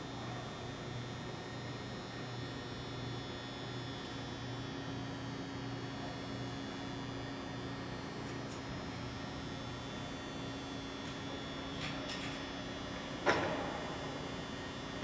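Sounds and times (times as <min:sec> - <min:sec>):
industrial equipment hum: 0:00.0 - 0:15.0.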